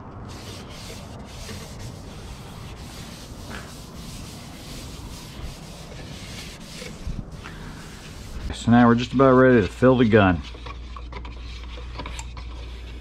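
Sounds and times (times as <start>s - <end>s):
rag rubbing on fiberglass: 0.2s - 13.0s.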